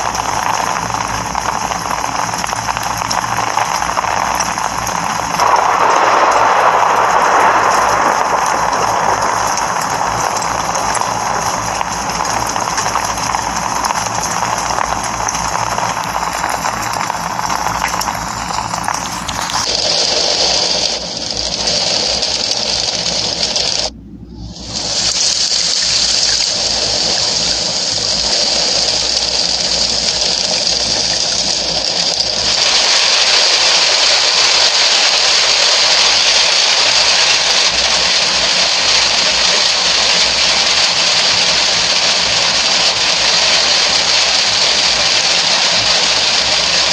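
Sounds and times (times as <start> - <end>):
heavy rain: 0.0 - 23.9, 24.6 - 46.9.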